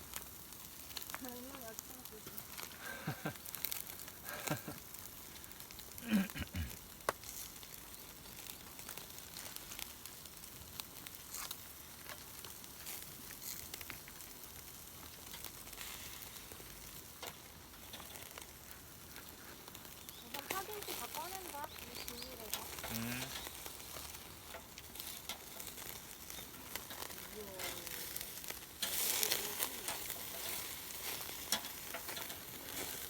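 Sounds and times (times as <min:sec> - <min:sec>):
food sizzling: 0:00.0 - 0:33.0
wood fire crackling: 0:00.0 - 0:33.0.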